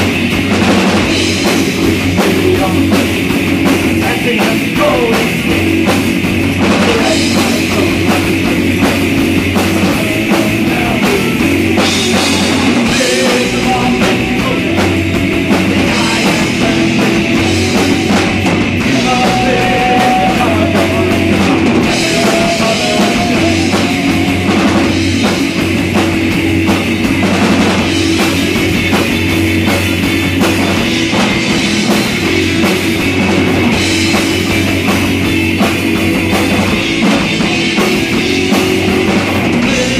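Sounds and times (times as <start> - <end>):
distorted electric guitars: 0.0 - 39.9
pounding drum kit: 0.0 - 39.9
rock band playing: 0.0 - 39.9.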